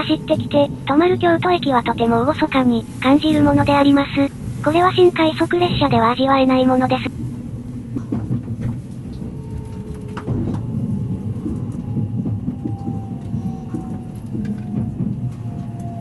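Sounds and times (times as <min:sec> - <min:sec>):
train rumble from inside car: 0:00.0 - 0:16.0.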